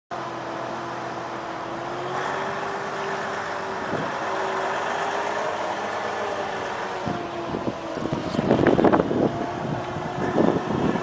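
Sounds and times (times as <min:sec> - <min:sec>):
tractor engine idling: 0:00.2 - 0:11.0.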